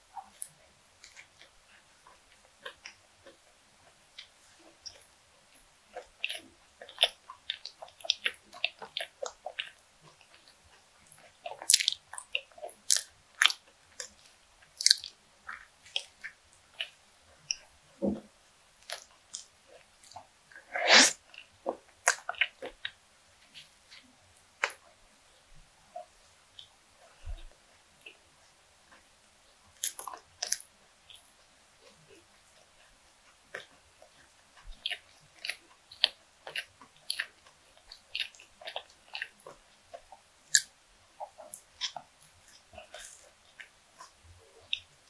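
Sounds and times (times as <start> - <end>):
chewing crunchy fried food: 0.0 - 45.0.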